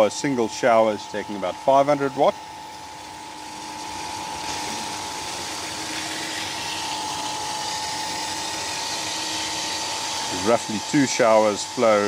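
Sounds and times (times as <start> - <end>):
pump whining: 0.0 - 12.0.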